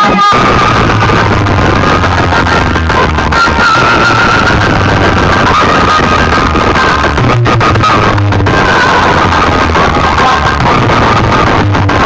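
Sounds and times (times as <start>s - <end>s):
loud bass-heavy music: 0.0s - 12.0s.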